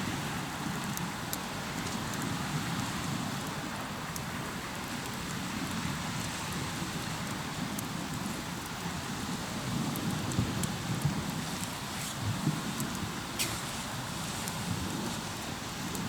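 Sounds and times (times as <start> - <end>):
campfire crackling: 0.0 - 16.0
waves washing on a shore: 0.0 - 16.0.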